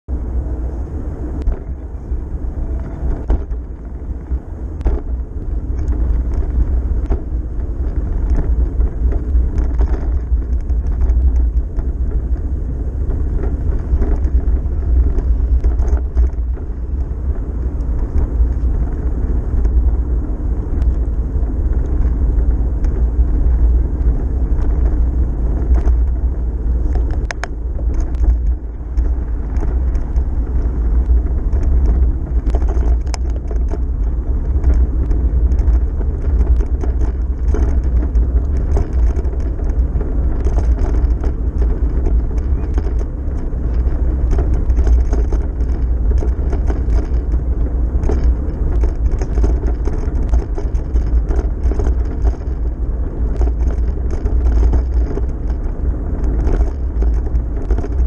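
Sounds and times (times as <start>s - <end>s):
tyre noise on pavement: 0.0s - 58.0s
wind buffeting microphone: 0.1s - 58.0s
bike clicks and knocks: 2.6s - 58.0s.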